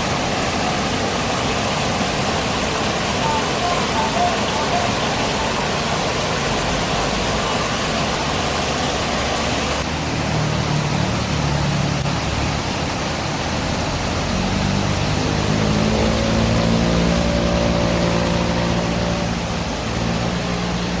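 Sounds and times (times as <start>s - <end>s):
vehicle engine droning: 2.2s - 21.0s.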